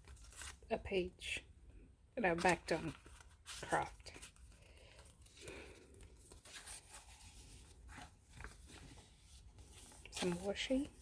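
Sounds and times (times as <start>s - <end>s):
paper pages rustling: 0.0s - 0.6s, 2.3s - 11.0s.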